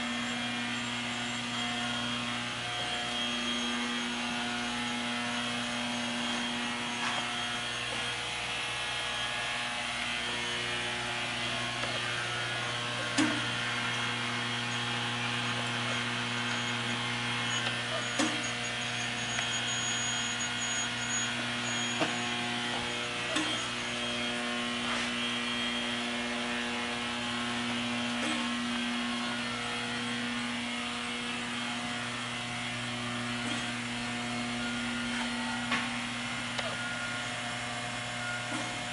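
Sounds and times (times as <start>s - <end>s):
furnace electrical hum: 0.0s - 38.9s.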